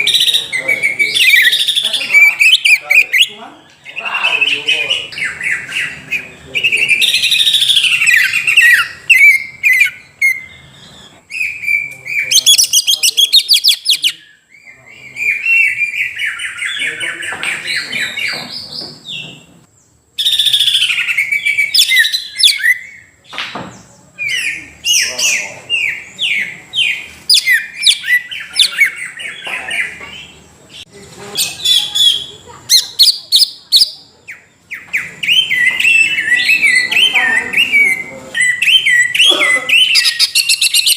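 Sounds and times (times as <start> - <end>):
bird singing chattering song: 0.0 - 40.9.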